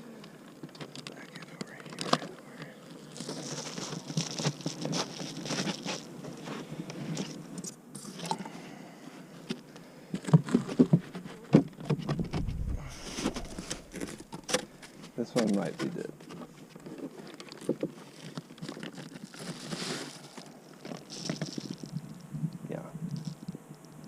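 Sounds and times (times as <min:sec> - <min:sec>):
beehive boxes knocking and scraping: 0:00.5 - 0:07.5, 0:09.4 - 0:22.0.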